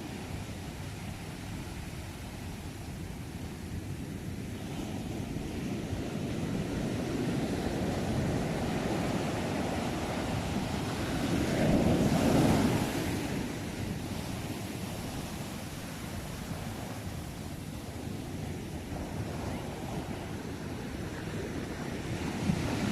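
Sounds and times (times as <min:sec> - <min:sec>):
sea waves surf rushing: 0:00.0 - 0:22.9.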